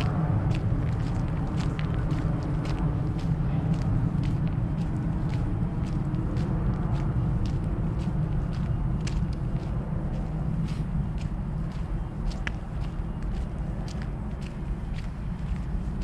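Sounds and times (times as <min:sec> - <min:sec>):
footsteps walking: 0:00.0 - 0:16.0
steady low rumble: 0:00.0 - 0:16.0.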